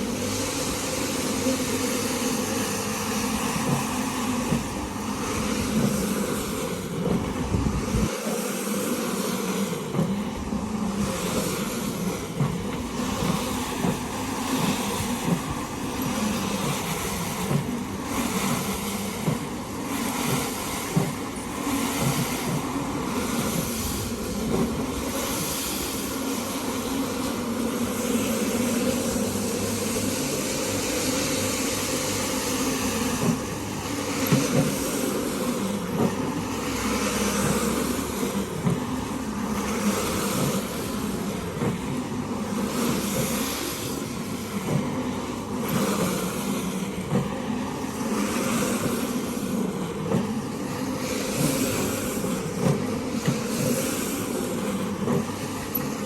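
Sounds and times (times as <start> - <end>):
rug-cleaning machine hissing: 0.0 - 56.0.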